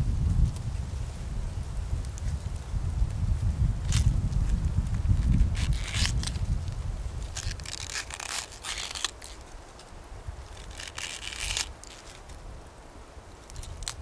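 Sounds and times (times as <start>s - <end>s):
crunching crinkling noise: 0.0s - 14.0s.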